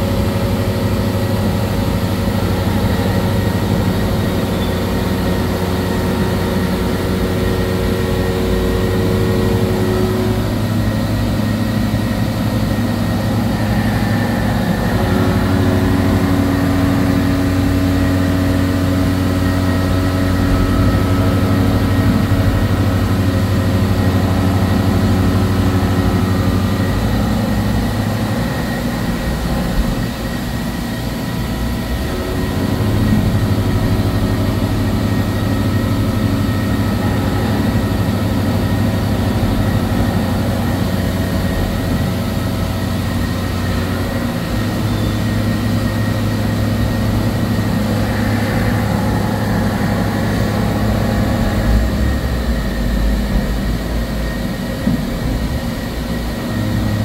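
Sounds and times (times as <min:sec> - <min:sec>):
milling machine humming: 0:00.0 - 0:57.0.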